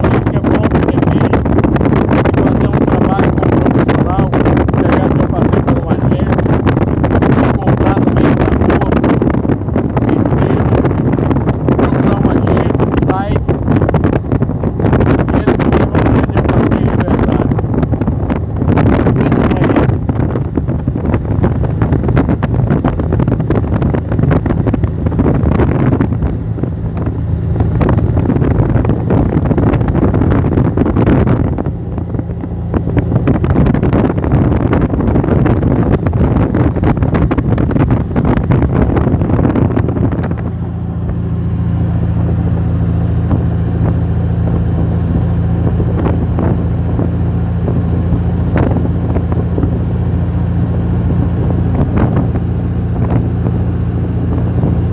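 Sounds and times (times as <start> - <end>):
vehicle engine droning: 0.0 - 54.9
wind buffeting microphone: 0.0 - 54.9.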